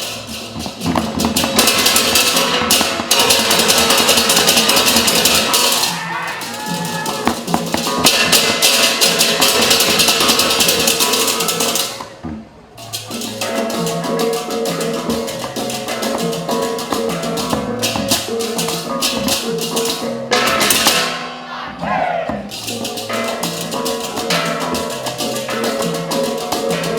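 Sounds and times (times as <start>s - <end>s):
fast rattling percussion: 0.0s - 12.2s, 12.8s - 21.3s, 22.3s - 26.9s
instruments holding steady notes: 0.0s - 26.9s.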